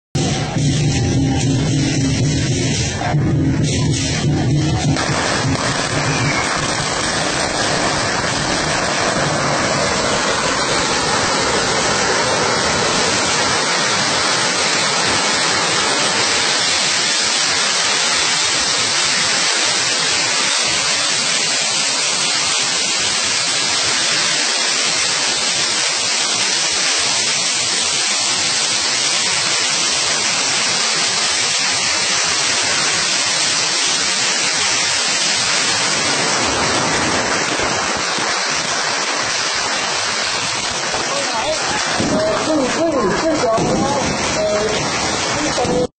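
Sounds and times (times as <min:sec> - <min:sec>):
firecrackers crackling: 0:00.2 - 0:45.9.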